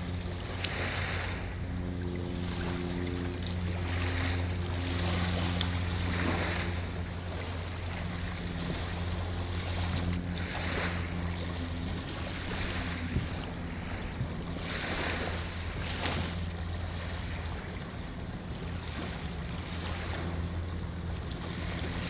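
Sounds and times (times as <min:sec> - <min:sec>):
boat engine humming: 0:00.0 - 0:22.0
river waves: 0:00.0 - 0:22.0
wind on microphone: 0:00.0 - 0:22.0.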